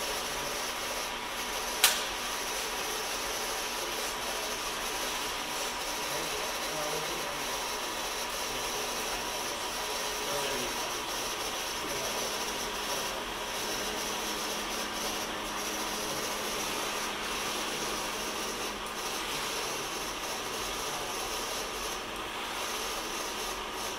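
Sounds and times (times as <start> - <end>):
machinery whirring and hissing: 0.0 - 23.9.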